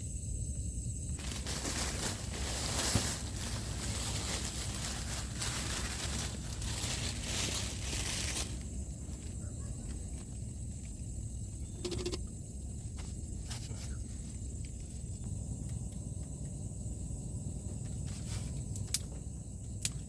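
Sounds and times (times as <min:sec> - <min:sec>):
steady low rumble: 0:00.0 - 0:20.0
rustling and crinkling: 0:01.1 - 0:20.0.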